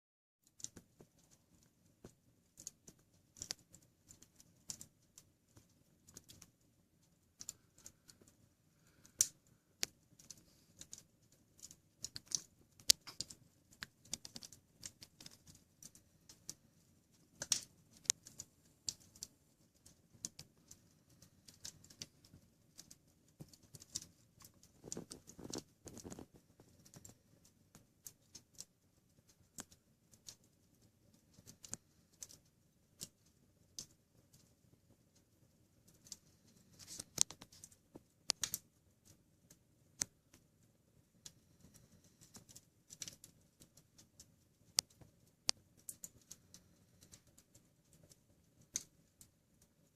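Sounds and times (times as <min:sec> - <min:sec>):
wood fire crackling: 0:00.4 - 0:49.9.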